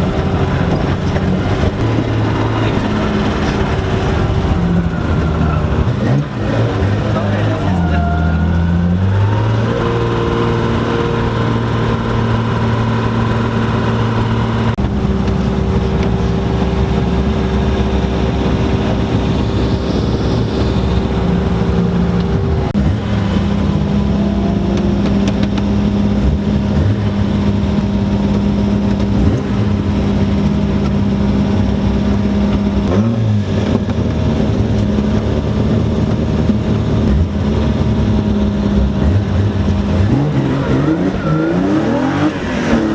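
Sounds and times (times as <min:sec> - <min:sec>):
car engine running hard: 0:00.0 - 0:42.9.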